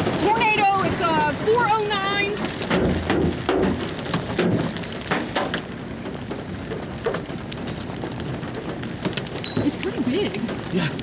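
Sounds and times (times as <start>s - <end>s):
rain hissing: 0.0s - 11.0s
raindrops tapping close by: 0.0s - 11.0s.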